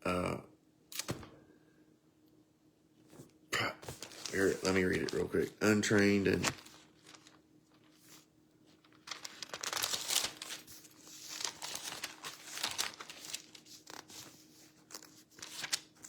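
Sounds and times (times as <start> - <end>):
thin pages rustling and flipping: 3.1 - 16.0.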